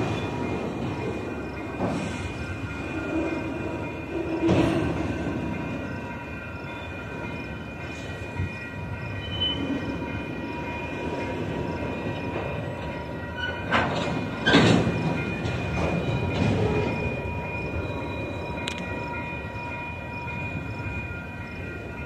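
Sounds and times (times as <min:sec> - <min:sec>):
train clanks: 0:00.0 - 0:22.0
train wheels rumbling on rails: 0:00.0 - 0:22.0.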